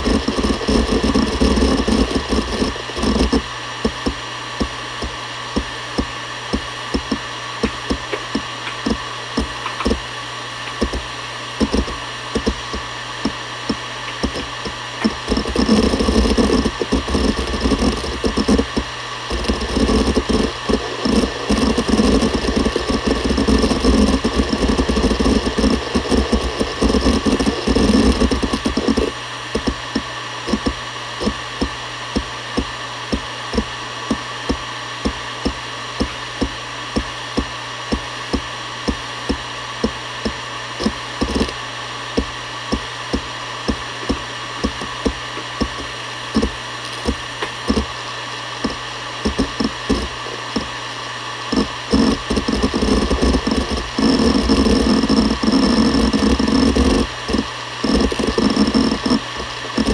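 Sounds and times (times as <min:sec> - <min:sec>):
hard drive seek clicks: 0:00.0 - 0:59.9
hard drive spinning hum: 0:00.0 - 0:59.9.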